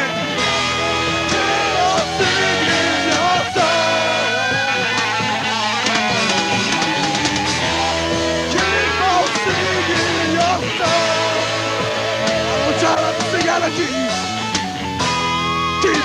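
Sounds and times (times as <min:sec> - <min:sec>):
lead guitar bending notes: 0:00.0 - 0:16.0
rock band playing bluesy song: 0:00.0 - 0:16.0.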